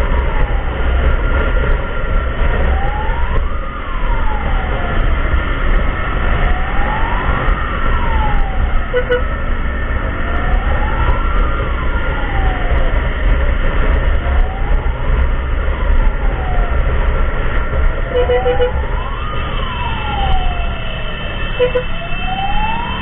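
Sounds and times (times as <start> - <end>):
ambulance siren wailing: 0.0 - 23.0
low road rumble: 0.0 - 23.0.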